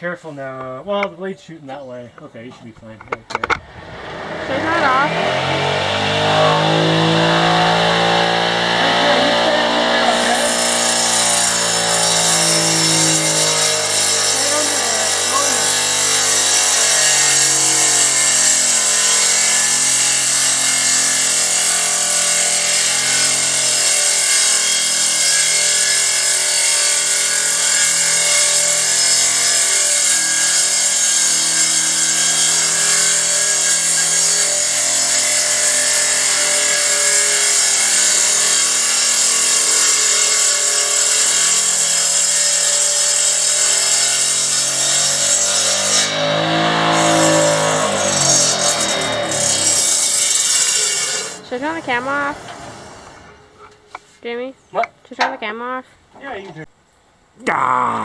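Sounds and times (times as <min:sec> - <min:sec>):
circular saw ripping log: 0:02.8 - 0:53.4.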